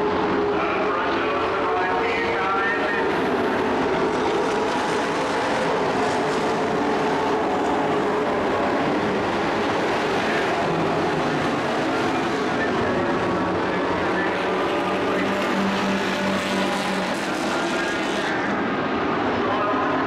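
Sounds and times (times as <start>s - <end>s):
race truck engines running hard: 0.0s - 20.0s.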